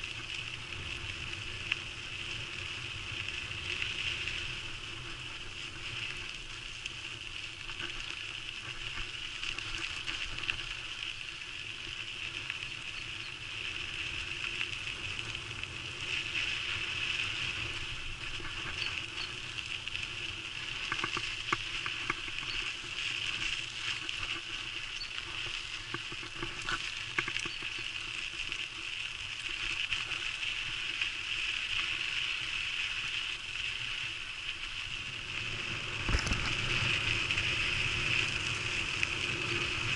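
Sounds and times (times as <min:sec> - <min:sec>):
bike clicks and rattles: 0:00.0 - 0:31.9, 0:35.6 - 0:39.9
bicycle rolling on gravel: 0:00.0 - 0:39.9.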